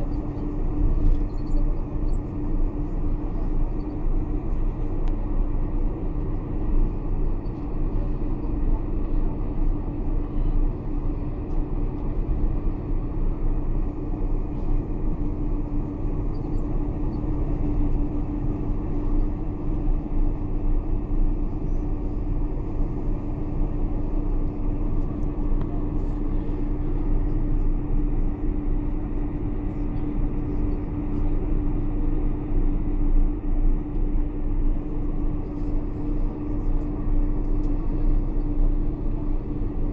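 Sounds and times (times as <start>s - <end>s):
aircraft cabin rumble: 0.0s - 39.9s
jet engines at low power: 0.0s - 39.9s.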